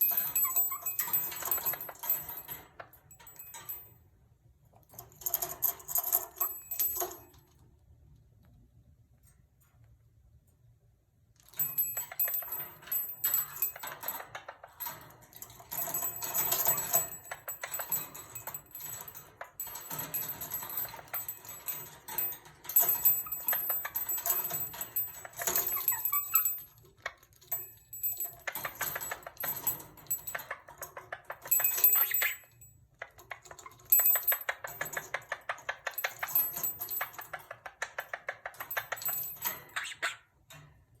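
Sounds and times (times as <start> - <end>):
metallic jingling: 0.0 - 4.0, 4.9 - 7.6, 11.5 - 40.7.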